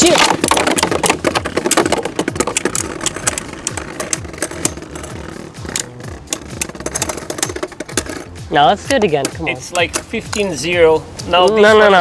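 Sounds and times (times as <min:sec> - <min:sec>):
spinning tops clicking and knocking: 0:00.0 - 0:10.5.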